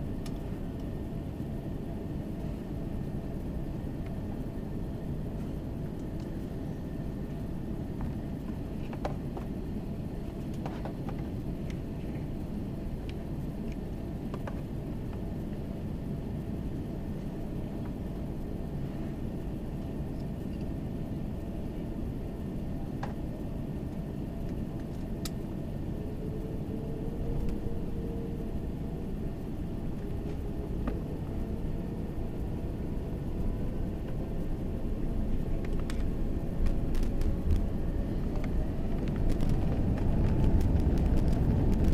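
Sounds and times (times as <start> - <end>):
airliner cabin low rumble: 0.0 - 41.9
faint jet engine whine: 0.0 - 41.9.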